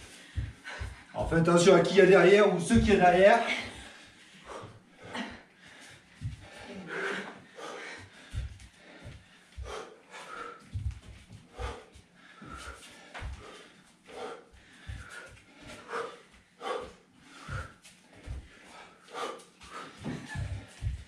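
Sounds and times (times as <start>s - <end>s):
person breathing out hard: 0.0s - 1.2s, 3.5s - 21.0s
bare feet thudding on wooden floor: 0.0s - 1.4s, 2.7s - 3.9s, 6.2s - 21.0s.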